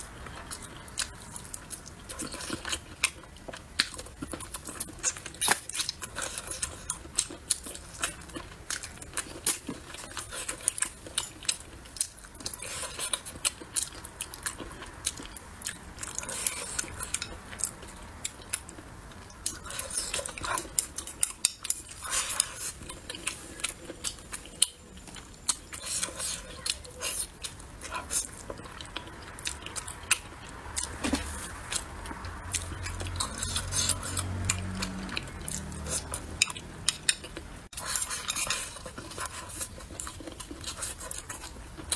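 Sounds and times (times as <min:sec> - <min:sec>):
chewing and lip smacking: 0:00.2 - 0:41.9.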